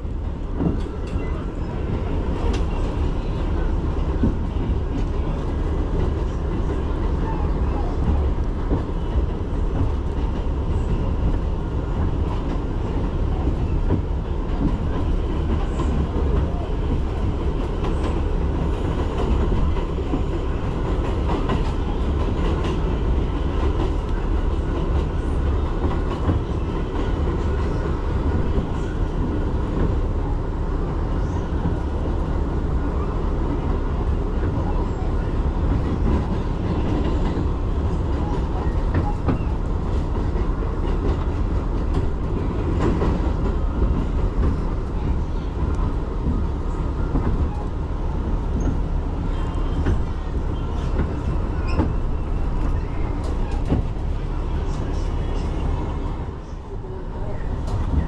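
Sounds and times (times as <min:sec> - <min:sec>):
subway train rumbling on track: 0:00.0 - 0:58.0.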